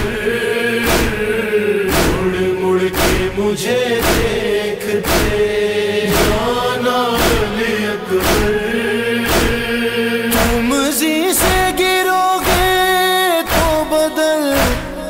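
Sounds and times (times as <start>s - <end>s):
crowd of men chanting: 0.0s - 15.0s
group chest-beating slaps: 0.8s - 10.7s, 11.4s - 11.8s, 12.4s - 15.0s.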